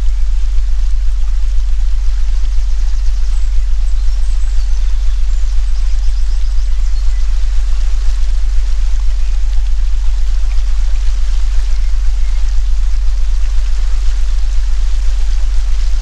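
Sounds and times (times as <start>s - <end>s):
deep electronic tone: 0.0s - 16.0s
faint bird chirps: 0.0s - 16.0s
rain-like hiss: 0.0s - 16.0s.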